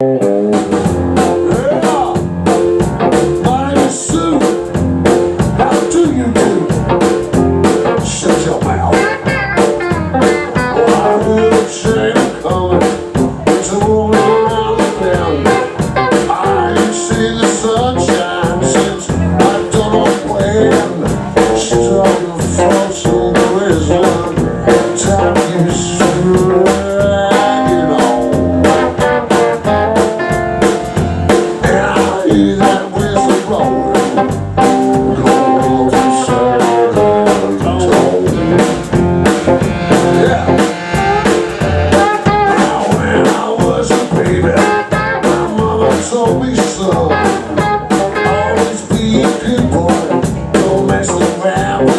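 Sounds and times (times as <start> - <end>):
bass: 0.0 - 51.9
drum kit beat: 0.0 - 51.9
guitar: 0.0 - 51.9.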